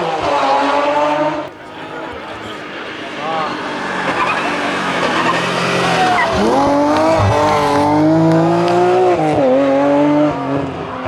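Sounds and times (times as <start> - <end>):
car engine at high revs: 0.7 - 11.0.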